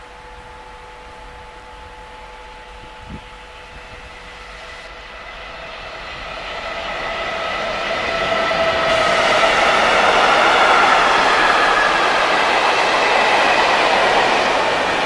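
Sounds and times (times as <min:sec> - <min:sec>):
freight train rumble: 0:00.0 - 0:15.0
steady whining tones: 0:00.0 - 0:15.0.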